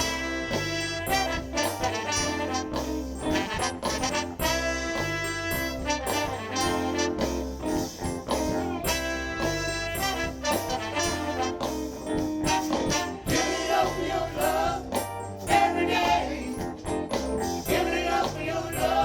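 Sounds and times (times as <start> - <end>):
horn section: 0.0 - 16.4
soul band playing: 0.0 - 19.0.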